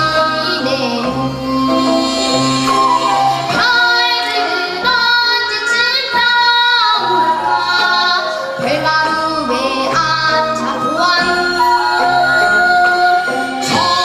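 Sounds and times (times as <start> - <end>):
children singing: 0.0 - 14.0
instrumental accompaniment: 0.0 - 14.0.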